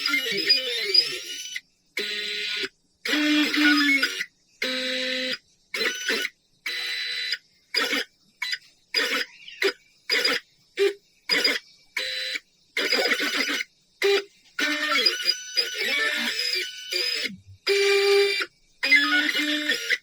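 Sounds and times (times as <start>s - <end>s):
pen plotter stepper motors whining: 0.0s - 20.0s.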